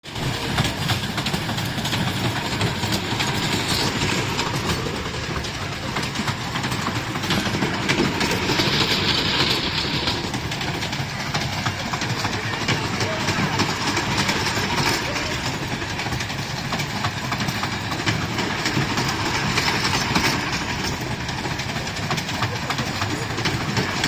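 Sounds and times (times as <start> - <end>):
toy train ride rumbling: 0.0 - 24.0
wheels clicking and clattering: 0.0 - 24.0.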